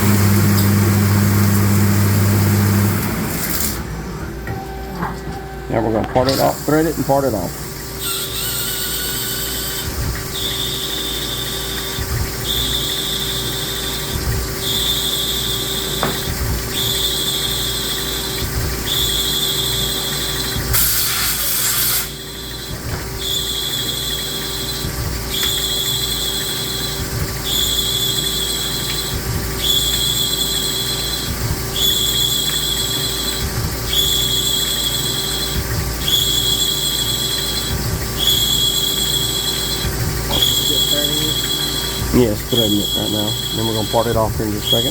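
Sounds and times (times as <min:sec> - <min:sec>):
lathe tool squealing: 0:00.0 - 0:44.9
steady machine hum: 0:00.0 - 0:44.9.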